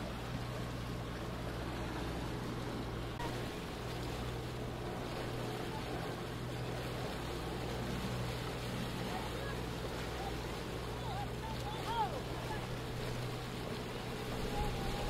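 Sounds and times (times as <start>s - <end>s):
boat motor idling: 0.0s - 15.0s
water noise: 0.0s - 15.0s
wind: 0.0s - 15.0s.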